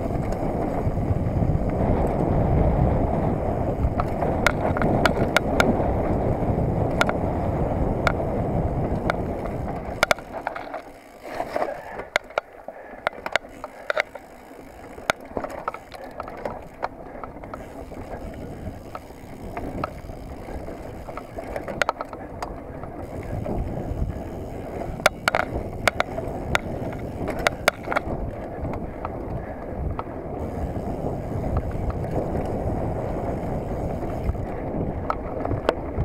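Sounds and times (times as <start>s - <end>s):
wind rushing on microphone: 0.0s - 12.4s, 13.0s - 36.0s
bike clicks and rattles: 0.0s - 36.0s.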